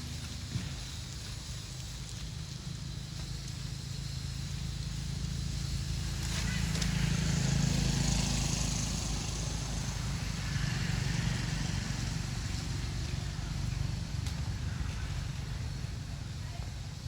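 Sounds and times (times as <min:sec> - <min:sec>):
outdoor background noise: 0:00.0 - 0:17.0
vehicle engine rumbling: 0:00.0 - 0:17.0.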